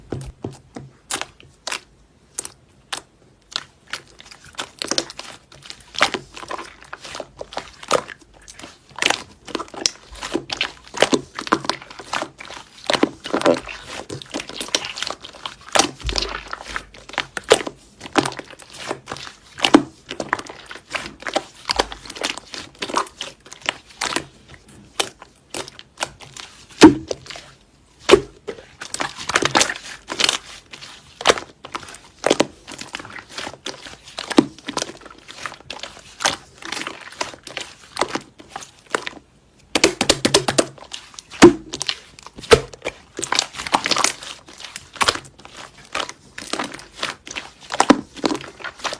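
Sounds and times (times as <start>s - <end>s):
slime squished by hand: 0.2s - 48.9s.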